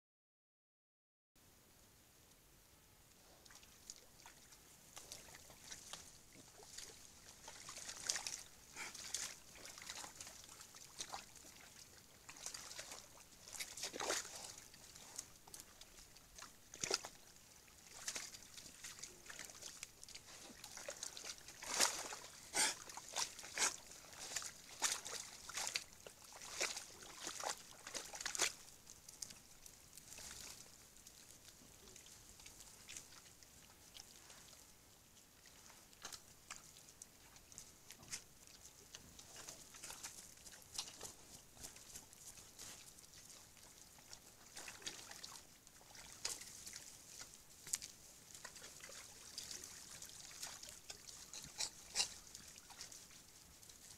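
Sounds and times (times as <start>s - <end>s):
animals splashing in mud: 3.4s - 34.6s, 35.4s - 53.2s.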